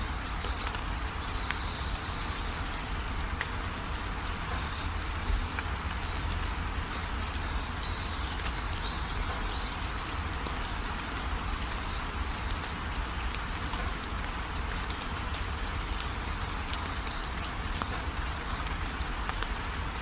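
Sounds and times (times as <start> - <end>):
small birds chirping: 0.0 - 20.0
steady rain falling: 0.0 - 20.0.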